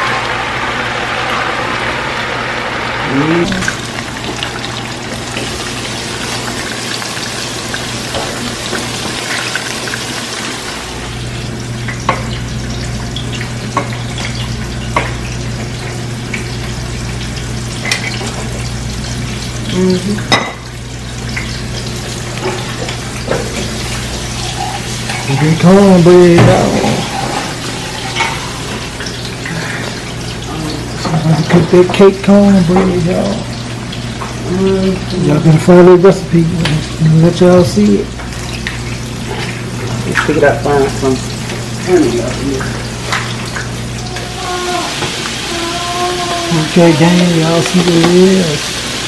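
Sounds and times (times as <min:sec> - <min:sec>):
pork chops sizzling in a skillet: 0:00.0 - 0:49.0.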